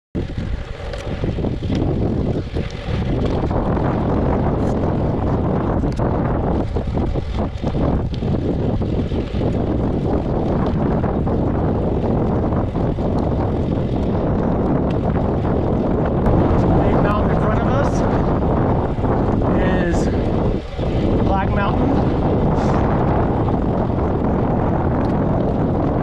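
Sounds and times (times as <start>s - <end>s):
wind buffeting microphone: 0.2s - 26.0s.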